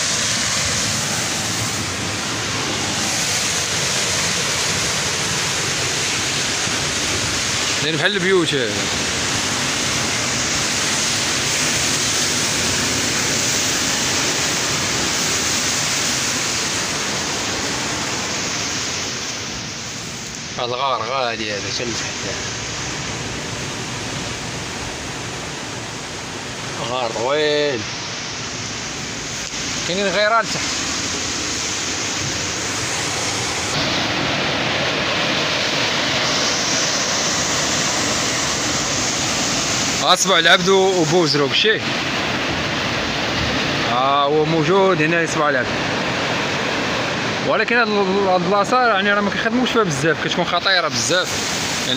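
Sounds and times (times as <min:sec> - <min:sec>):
sea surf breaking on rocks: 0:00.0 - 0:51.9.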